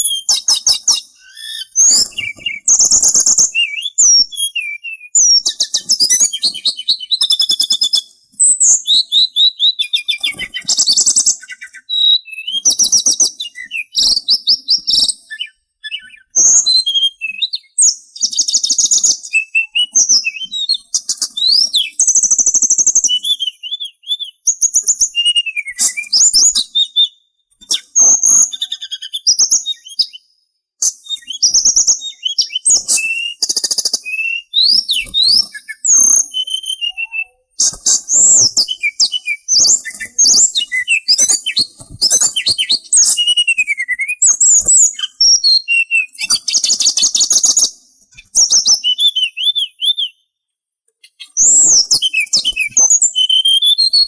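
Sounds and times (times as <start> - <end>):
songbird singing: 0.0 - 50.3, 51.0 - 54.0.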